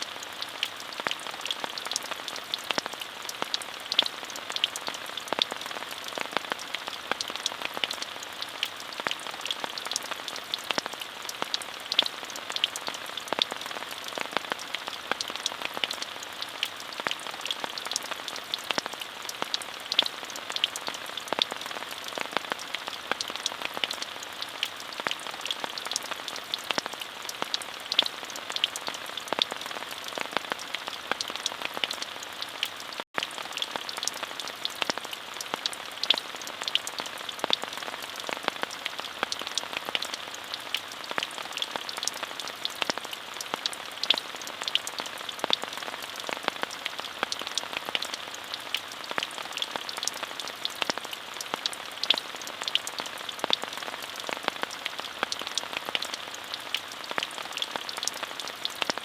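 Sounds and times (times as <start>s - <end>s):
raindrops ticking: 0.0s - 59.0s
steady rain falling: 0.0s - 59.0s.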